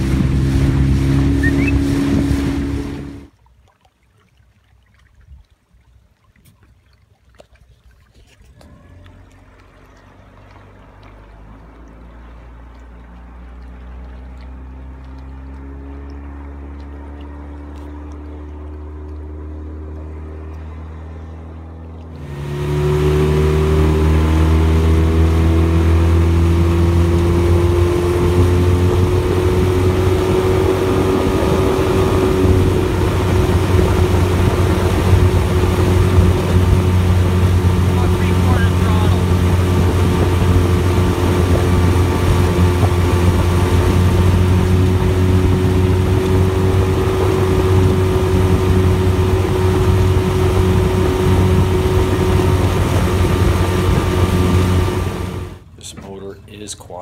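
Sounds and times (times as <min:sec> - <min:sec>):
outboard motor running: 0:00.0 - 0:03.4, 0:07.4 - 0:57.0
water rushing: 0:00.0 - 0:57.0
wind: 0:00.0 - 0:57.0.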